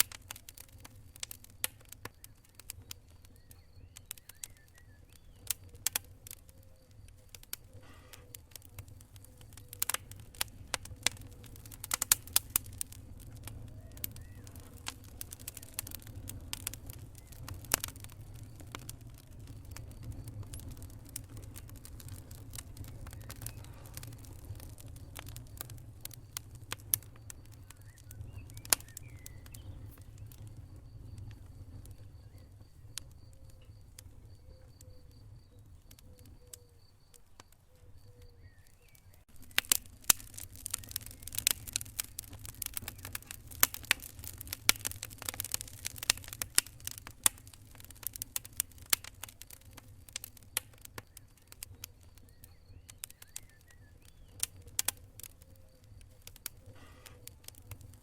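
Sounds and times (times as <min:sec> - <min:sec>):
fire low rumble: 0:00.0 - 0:58.0
wood fire crackling: 0:00.0 - 0:58.0.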